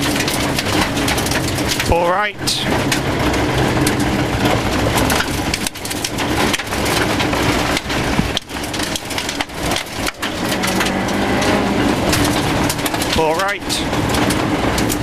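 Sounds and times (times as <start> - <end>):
car engine running hard: 0.0 - 15.0
gravel rattling against car underside: 0.0 - 15.0.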